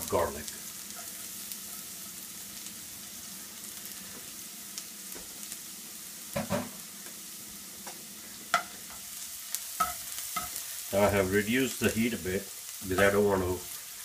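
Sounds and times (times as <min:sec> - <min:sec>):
garlic sizzling in oil: 0:00.0 - 0:14.0.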